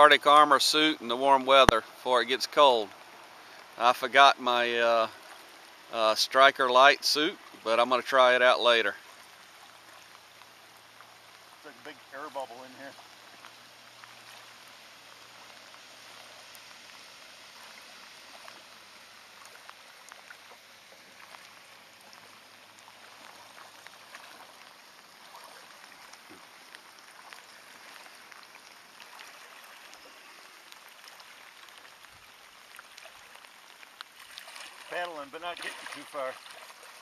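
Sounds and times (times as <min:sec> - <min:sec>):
light rain hissing: 0:00.0 - 0:37.0
raindrops ticking: 0:00.0 - 0:37.0.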